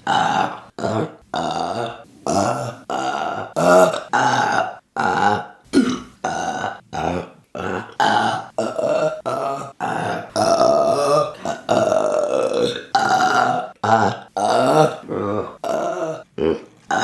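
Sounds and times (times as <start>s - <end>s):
woman burping: 0.0s - 17.0s.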